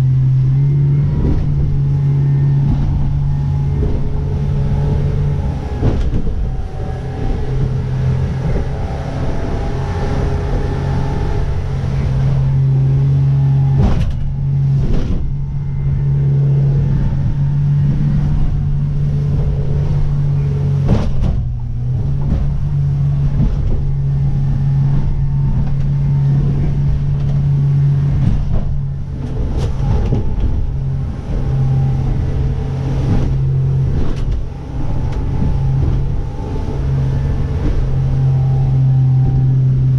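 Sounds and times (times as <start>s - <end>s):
motorboat engine drone: 0.0s - 39.9s.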